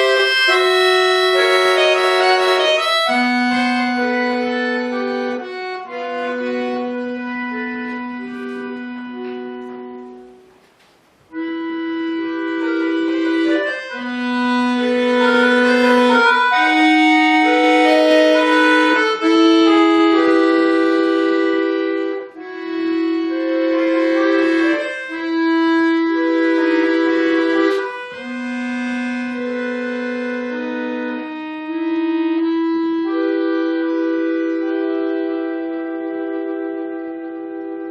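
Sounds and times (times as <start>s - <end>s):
button accordion playing: 0.0s - 10.6s, 11.3s - 37.9s.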